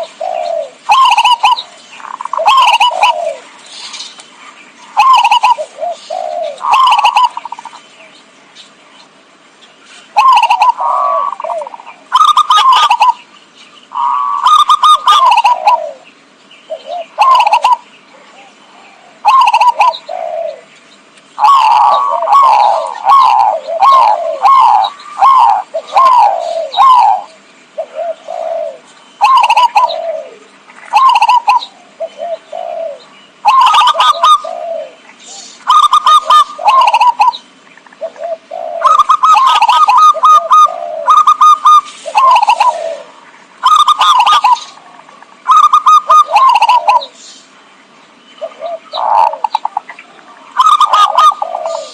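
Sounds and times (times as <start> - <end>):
dove cooing: 0.0 - 7.9, 10.1 - 13.3, 13.9 - 20.7, 21.4 - 47.2, 48.4 - 51.9.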